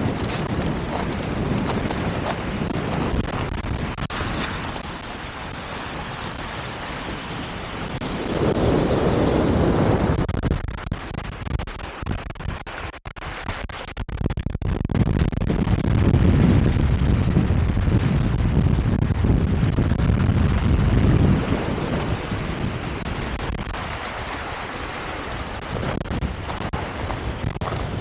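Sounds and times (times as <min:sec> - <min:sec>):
wind noise on microphone: 0:00.0 - 0:28.0.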